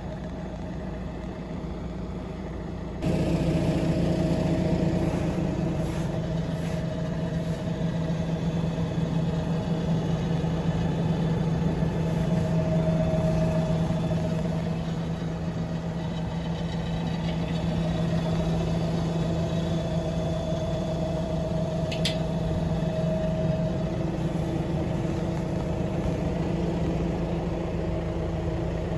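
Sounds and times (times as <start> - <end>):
tractor engine idling: 0.0 - 28.9.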